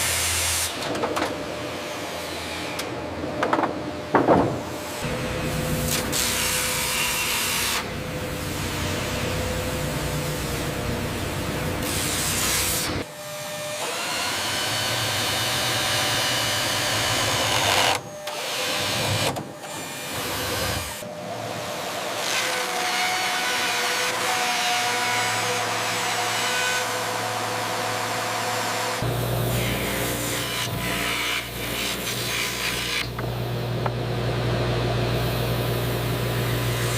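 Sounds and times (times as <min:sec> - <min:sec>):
sawmill machinery humming: 0:04.5 - 0:19.0, 0:19.6 - 0:36.9.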